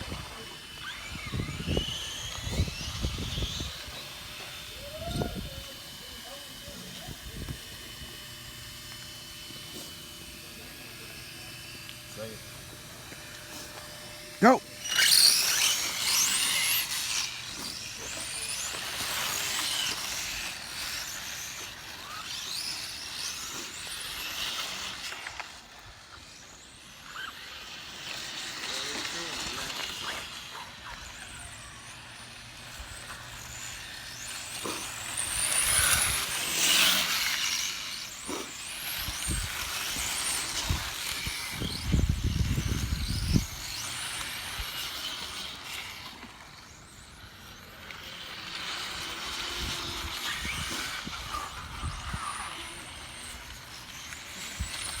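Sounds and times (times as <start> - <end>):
toy car motor whine: 0.0 - 55.0.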